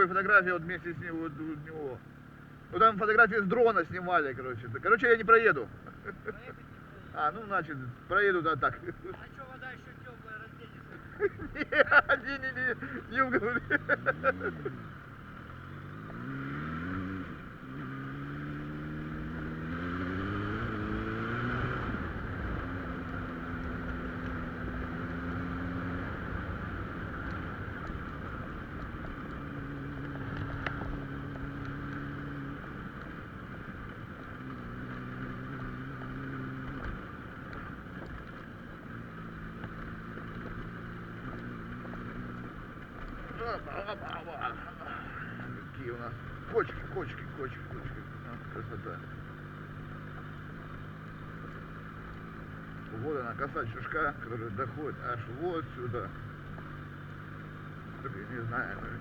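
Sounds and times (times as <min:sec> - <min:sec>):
car engine accelerating: 0:00.0 - 0:59.0
road and tyre noise: 0:00.0 - 0:59.0.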